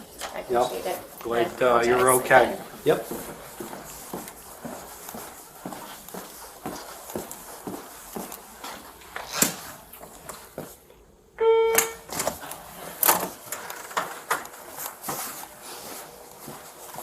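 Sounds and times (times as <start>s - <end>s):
footsteps: 0.0s - 10.9s, 12.2s - 17.0s.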